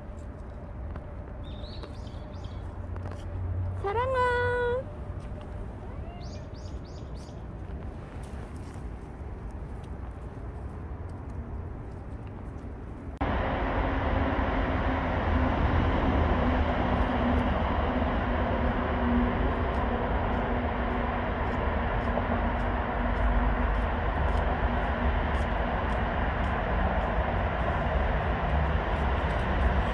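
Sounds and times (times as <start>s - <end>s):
vehicle rumble: 0.0s - 29.9s.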